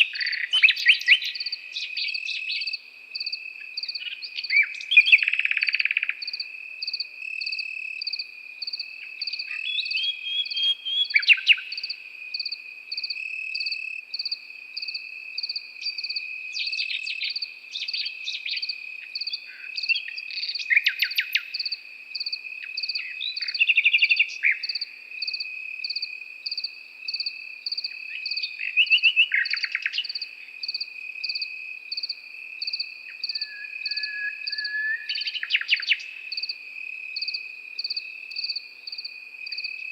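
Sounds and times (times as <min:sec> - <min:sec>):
crickets chirping: 0:00.0 - 0:39.9
crickets trilling: 0:00.0 - 0:39.9
nightingale singing: 0:00.0 - 0:39.9.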